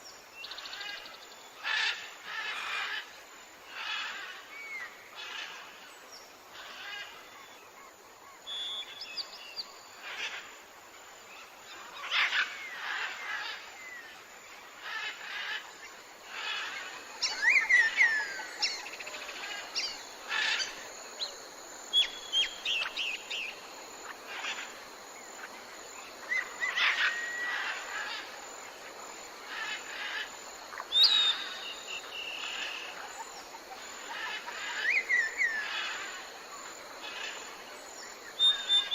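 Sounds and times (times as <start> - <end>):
hiss of insects: 0.0 - 38.9.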